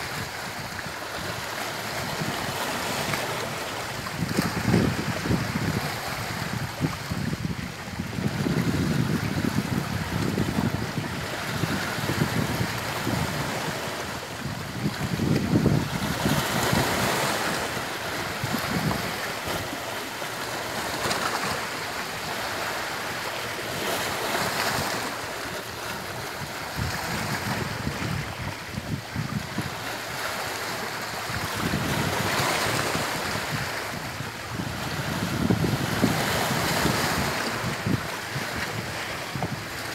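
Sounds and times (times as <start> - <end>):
wind buffeting microphone: 0.0 - 23.1, 23.7 - 39.9
sea waves breaking on shore: 0.0 - 39.9.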